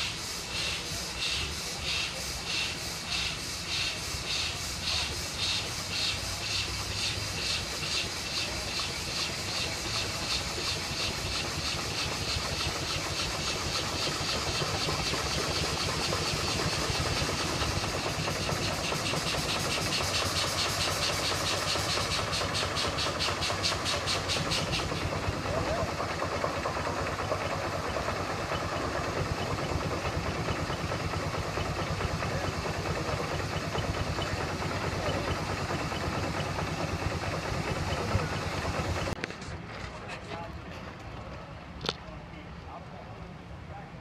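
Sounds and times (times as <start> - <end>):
steam engine exhaust chuffing: 0.0 - 41.7.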